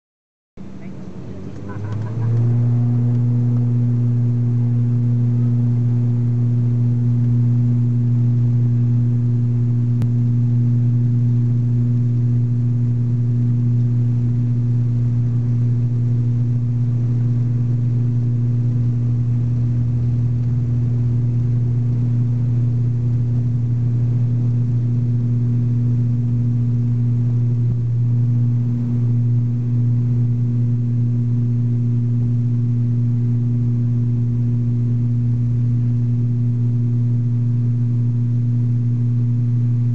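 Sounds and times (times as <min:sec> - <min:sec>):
turboprop engine drone: 0:00.6 - 0:39.9.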